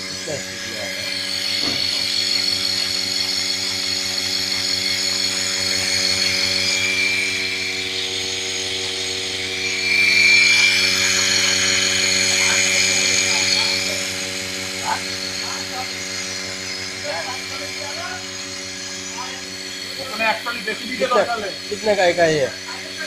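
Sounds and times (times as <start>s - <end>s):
milk hissing through hoses: 0.0s - 23.0s
vacuum pump hum: 0.0s - 23.0s.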